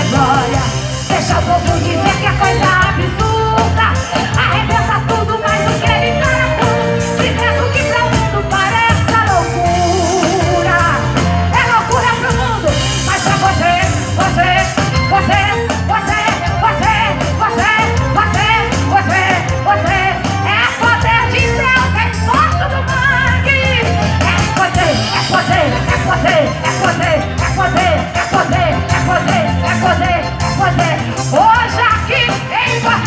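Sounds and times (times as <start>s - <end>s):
bass: 0.0s - 33.0s
lead voice singing: 0.0s - 33.0s
live gospel band playing: 0.0s - 33.0s.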